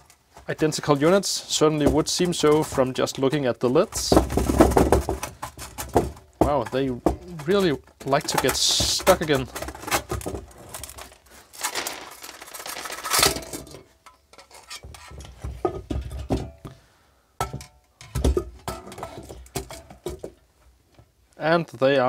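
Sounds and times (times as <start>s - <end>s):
metal parts knocking on wood: 0.0s - 16.7s, 17.4s - 20.4s.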